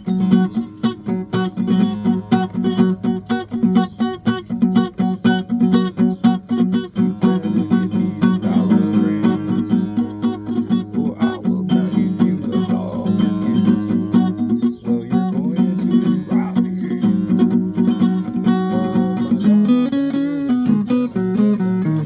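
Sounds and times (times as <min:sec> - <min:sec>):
acoustic guitar plucked: 0:00.0 - 0:22.0.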